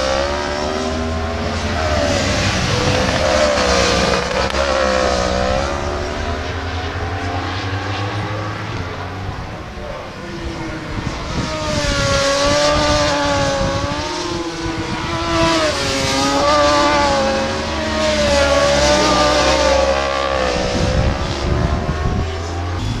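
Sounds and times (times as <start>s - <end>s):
racing motorcycle engines: 0.0s - 23.0s.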